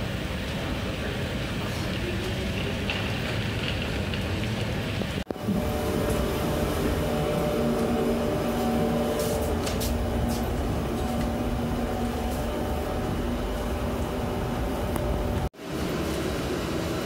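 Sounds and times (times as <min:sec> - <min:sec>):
machinery humming and whirring: 0:00.0 - 0:17.0.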